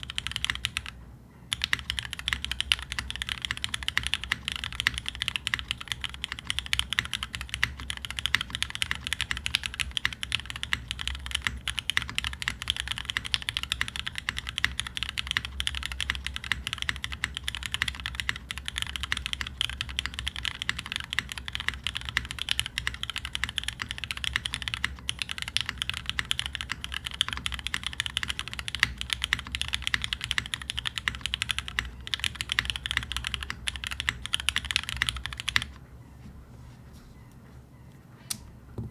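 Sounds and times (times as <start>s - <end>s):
mechanical keyboard typing: 0.0s - 35.8s.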